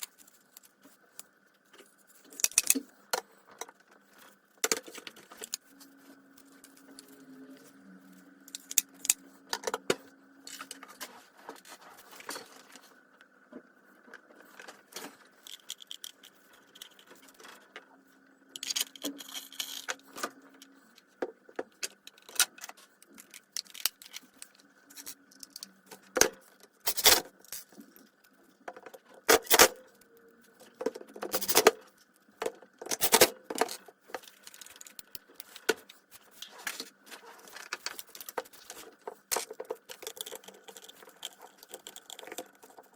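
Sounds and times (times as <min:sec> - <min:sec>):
metal parts clinking and scraping: 0:02.0 - 0:11.0, 0:14.4 - 0:17.8, 0:18.5 - 0:21.1, 0:21.8 - 0:28.1, 0:29.2 - 0:30.1, 0:30.7 - 0:42.9.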